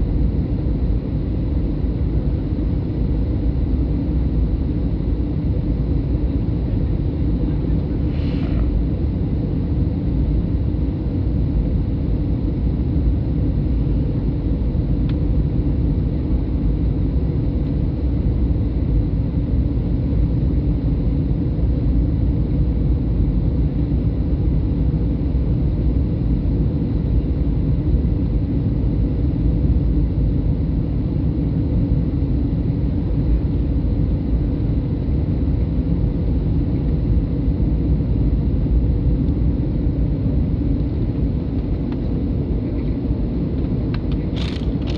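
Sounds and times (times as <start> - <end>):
aircraft cabin engine rumble: 0.0 - 44.9.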